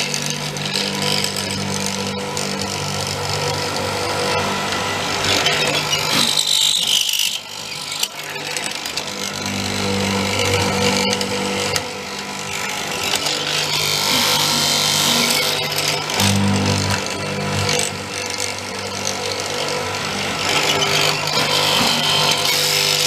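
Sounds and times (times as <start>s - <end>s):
chisel cutting into hard wood: 0.0s - 23.0s
motor humming: 0.0s - 23.0s.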